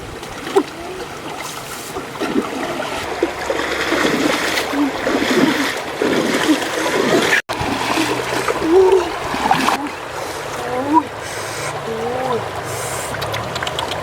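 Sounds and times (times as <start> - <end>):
running water hiss: 0.0 - 14.0
water splashing and sloshing: 0.0 - 14.0.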